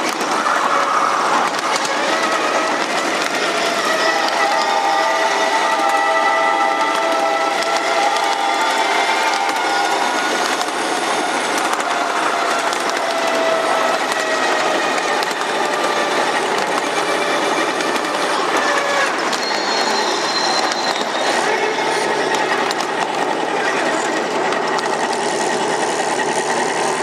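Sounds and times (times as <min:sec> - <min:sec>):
miniature train wheels clattering: 0:00.0 - 0:27.0
wavering squealing tones: 0:00.0 - 0:27.0.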